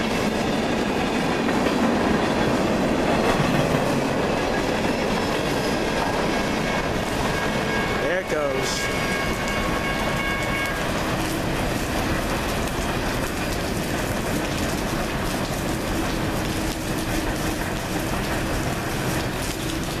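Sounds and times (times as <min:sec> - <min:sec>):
freight train rolling: 0:00.0 - 0:20.0
heavy rain on canopy: 0:00.0 - 0:20.0.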